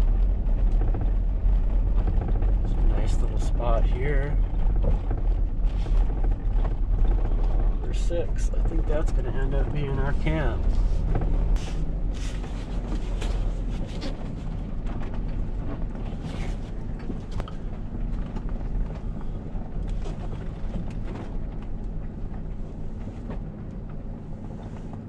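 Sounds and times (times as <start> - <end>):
engine and road rumble: 0.0 - 25.0.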